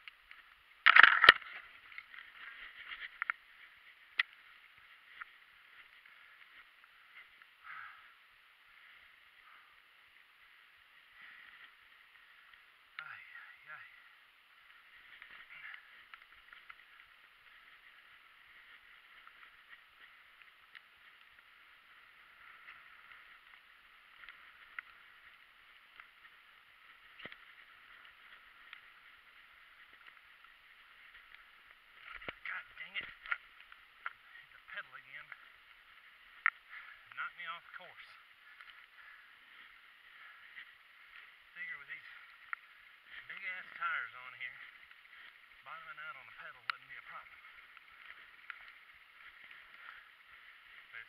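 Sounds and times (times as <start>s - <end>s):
bike ticks and rattles: 0.0s - 51.0s
bike tyres rolling over dry leaves: 0.0s - 51.0s.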